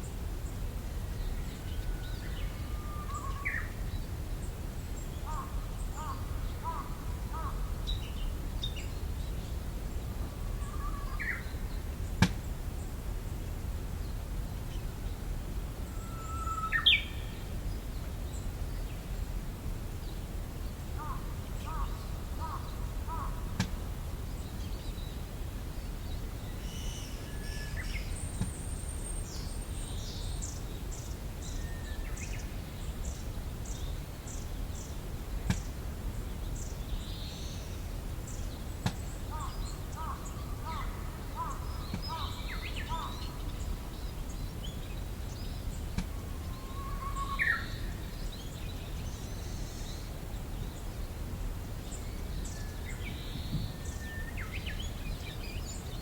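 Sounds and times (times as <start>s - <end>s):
songbirds singing: 0.0s - 19.4s, 20.0s - 56.0s.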